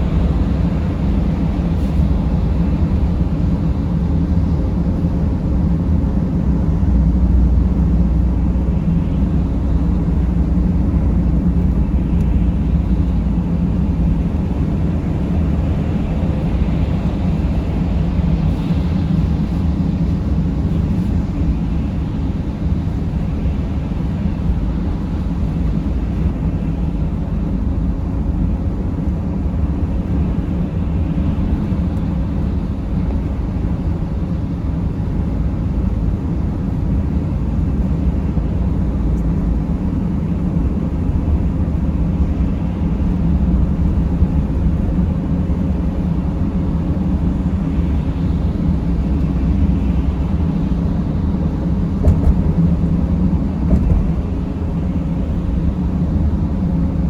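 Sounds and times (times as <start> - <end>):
van engine and road noise: 0.0 - 57.0.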